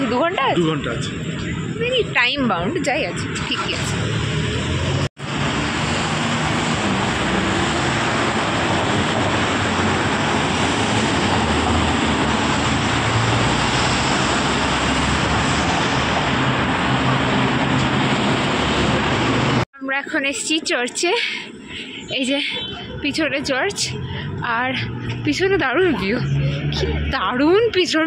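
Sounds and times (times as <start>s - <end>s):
city street traffic roar: 0.0s - 28.0s.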